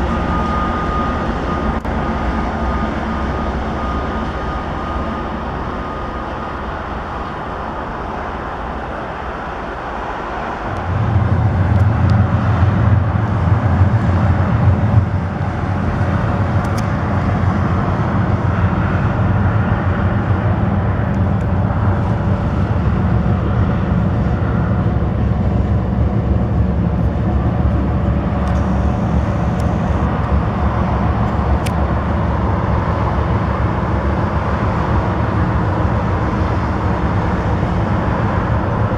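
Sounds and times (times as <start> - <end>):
diesel locomotive engine rumbling: 0.0 - 38.9.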